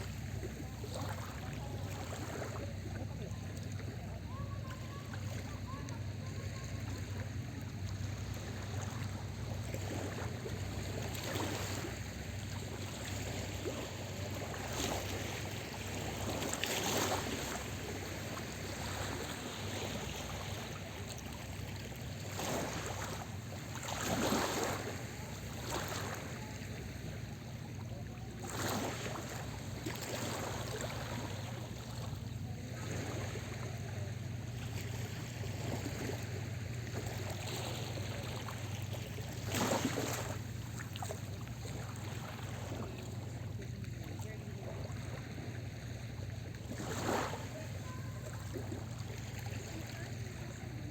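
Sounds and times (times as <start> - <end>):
steady low hum: 0.0 - 50.9
waves washing onto beach: 0.0 - 50.9.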